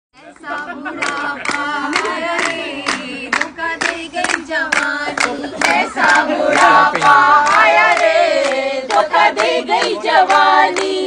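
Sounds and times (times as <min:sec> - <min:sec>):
hands clapping in rhythm: 0:00.3 - 0:11.0
women singing in unison: 0:00.3 - 0:11.0.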